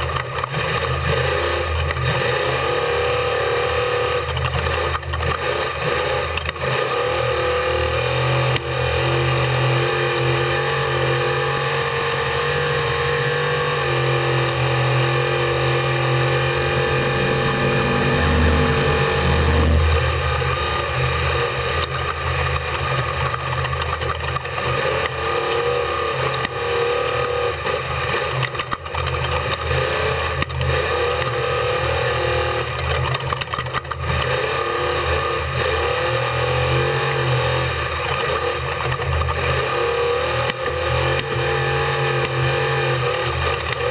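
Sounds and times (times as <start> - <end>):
truck engine running hard: 0.0 - 43.9.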